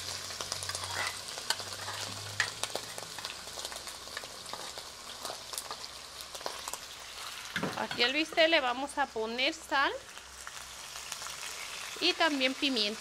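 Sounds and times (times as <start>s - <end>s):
oil popping and crackling: 0.0s - 8.0s, 10.1s - 13.0s
meat sizzling in hot oil: 0.0s - 13.0s.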